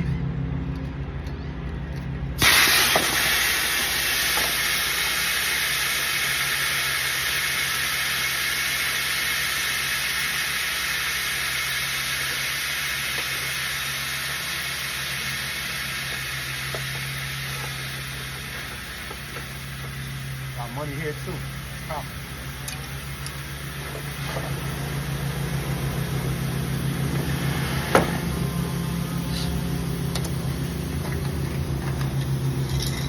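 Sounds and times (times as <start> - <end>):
refrigerant hissing from a pipe: 2.4 - 30.8.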